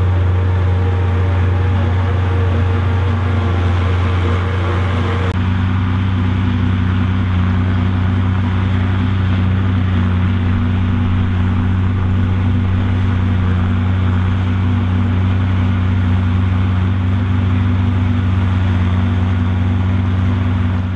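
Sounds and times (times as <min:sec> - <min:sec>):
forage harvester chopper rushing: 0:00.0 - 0:20.9
second tractor running: 0:00.0 - 0:20.9
tractor engine drone: 0:00.0 - 0:20.9.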